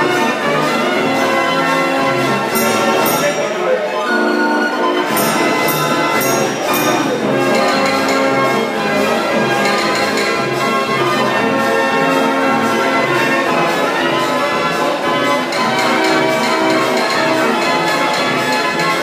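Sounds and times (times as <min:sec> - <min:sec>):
street organ playing a tune: 0:00.0 - 0:19.0.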